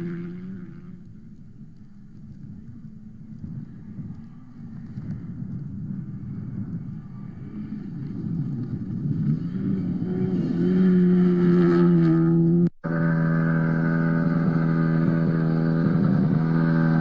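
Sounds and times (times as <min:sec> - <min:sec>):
rally car engine at speed: 0:00.0 - 0:17.0.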